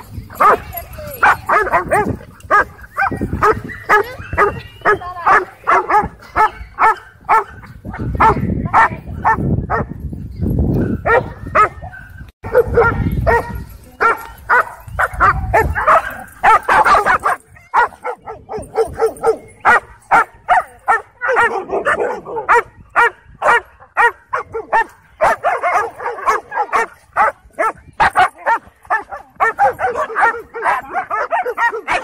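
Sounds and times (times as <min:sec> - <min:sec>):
dogs barking and yipping: 0:00.0 - 0:32.0.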